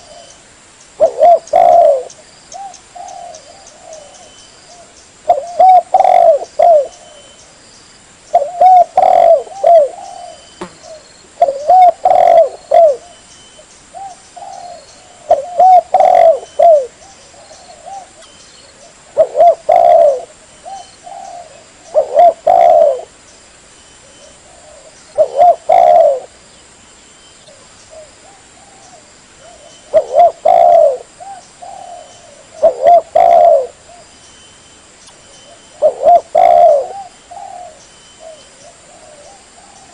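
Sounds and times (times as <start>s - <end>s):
dove cooing: 1.0s - 7.4s, 8.3s - 13.2s, 13.9s - 23.2s, 24.0s - 26.4s, 27.5s - 34.1s, 35.4s - 39.9s.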